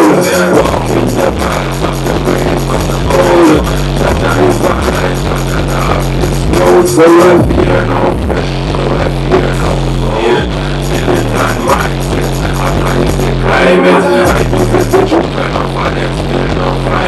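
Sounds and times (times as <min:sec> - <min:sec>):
electronic music beat and bass: 0:00.0 - 0:17.0
voice through microphone: 0:00.0 - 0:17.0.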